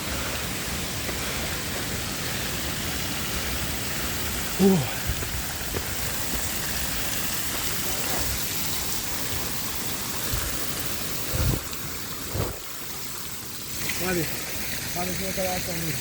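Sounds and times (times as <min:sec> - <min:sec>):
falling water hissing: 0:00.0 - 0:16.0.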